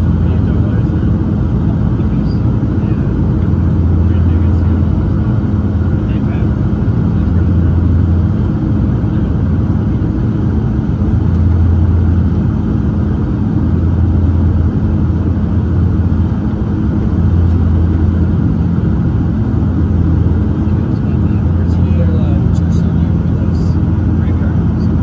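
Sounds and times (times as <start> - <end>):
airliner cabin engine drone: 0.0 - 25.0
deep hum: 0.0 - 25.0.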